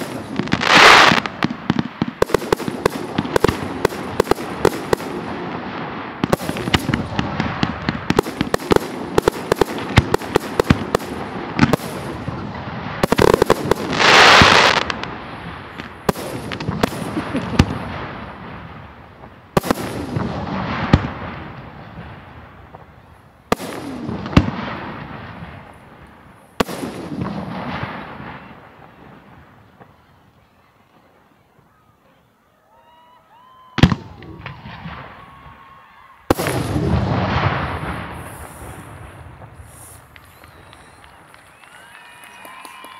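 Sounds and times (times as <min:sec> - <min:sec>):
fireworks bangs: 0:00.0 - 0:31.8, 0:33.6 - 0:42.9.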